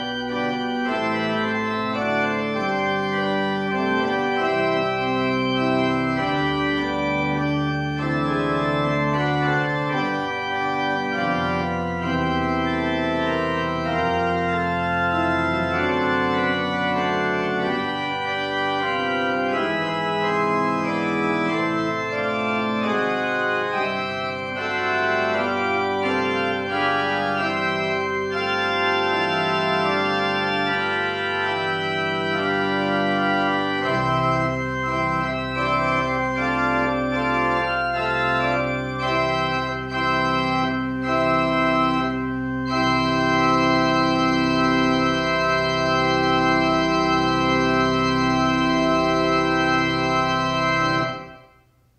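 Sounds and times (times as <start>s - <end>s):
organ playing held chords: 0.0s - 51.6s.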